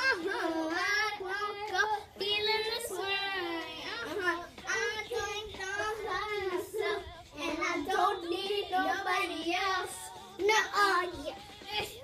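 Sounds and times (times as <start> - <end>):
girls singing: 0.0 - 12.0.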